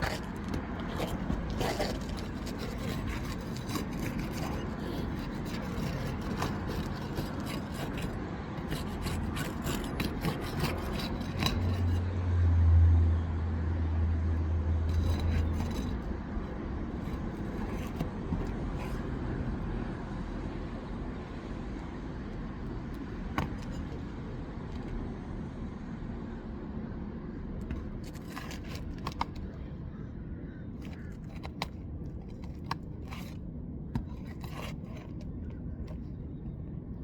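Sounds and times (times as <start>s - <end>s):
asphalt shingles scraping and clicking: 0.0s - 12.1s, 14.3s - 25.3s, 27.5s - 29.8s, 30.8s - 36.3s.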